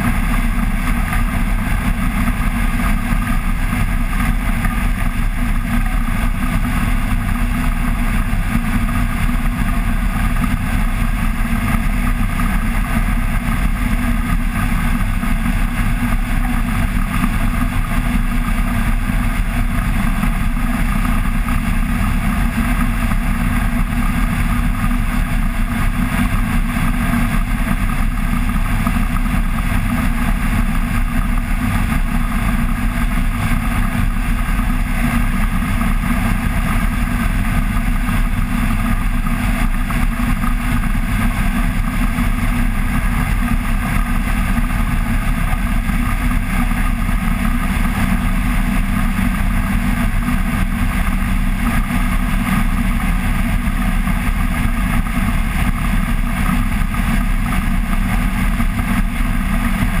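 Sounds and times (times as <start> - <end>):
microlight engine and propeller droning: 0.0 - 60.0.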